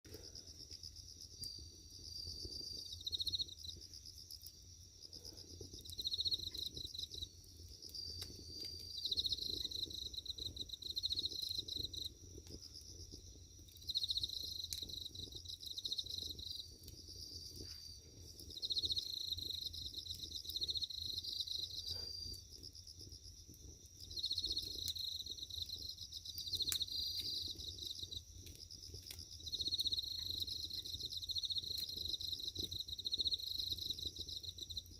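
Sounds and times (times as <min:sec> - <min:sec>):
firewood popping and crackling: 0:00.1 - 0:34.9
insects chirping in trills: 0:00.1 - 0:34.9.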